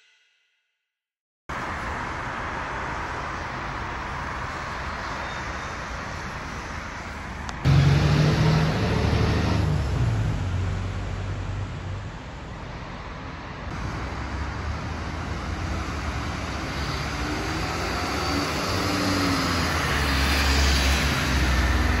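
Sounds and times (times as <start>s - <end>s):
tyres hissing on wet road: 1.5s - 11.6s, 13.7s - 22.0s
vehicle engine hum: 1.5s - 22.0s.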